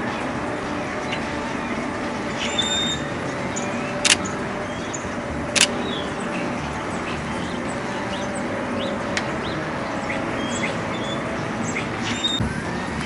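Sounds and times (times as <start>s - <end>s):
background hum: 0.0s - 13.0s
songbirds chirping: 0.0s - 13.0s.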